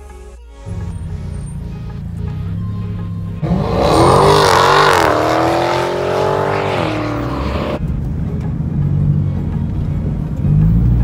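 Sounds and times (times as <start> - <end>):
car engine revving: 0.7 - 11.0.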